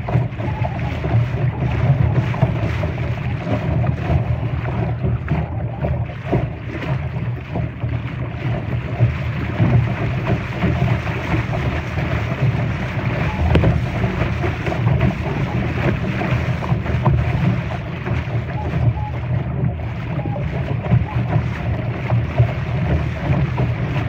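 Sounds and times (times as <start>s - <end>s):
water rushing and splashing: 0.0s - 24.0s
wind buffeting microphone: 0.0s - 24.0s.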